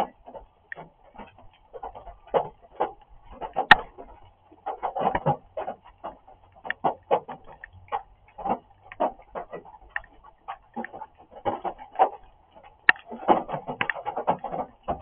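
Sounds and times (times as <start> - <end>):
raindrops tapping hard surface: 0.0 - 15.0.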